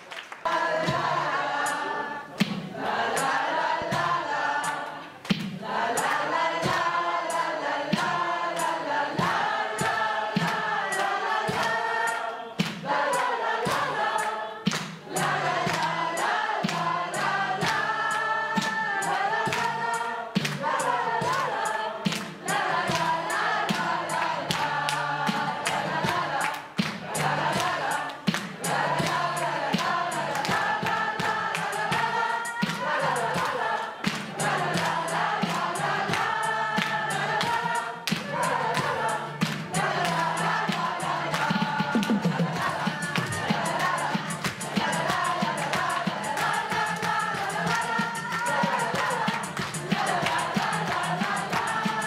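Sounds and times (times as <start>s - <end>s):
hand claps: 0.0s - 52.0s
choir singing a pop song: 0.4s - 52.0s.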